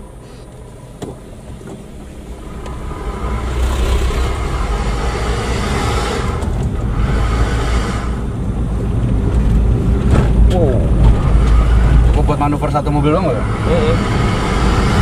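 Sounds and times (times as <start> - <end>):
car engine rumble: 0.0 - 15.0
tyre and road noise: 0.0 - 15.0.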